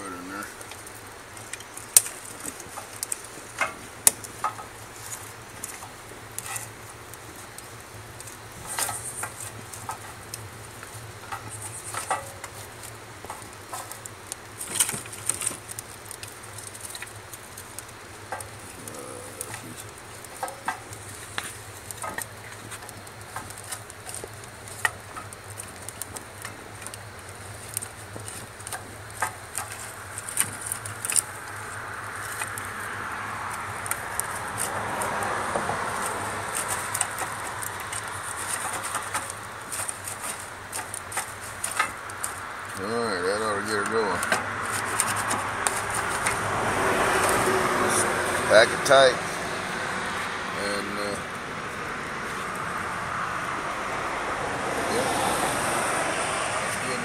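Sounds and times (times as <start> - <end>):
wood sticks knocking and clattering: 0.4 - 49.0
sharp irregular clicks: 0.4 - 49.1.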